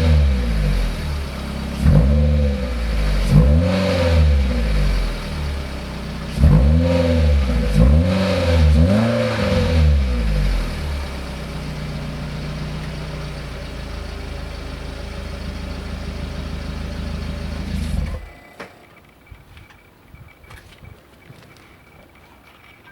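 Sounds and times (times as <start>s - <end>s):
car engine revving and idling: 0.0s - 18.4s.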